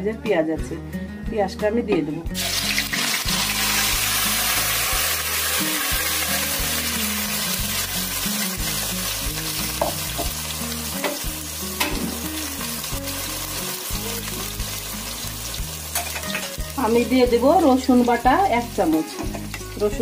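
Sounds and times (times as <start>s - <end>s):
onion paste sizzling in hot oil: 2.4s - 20.0s.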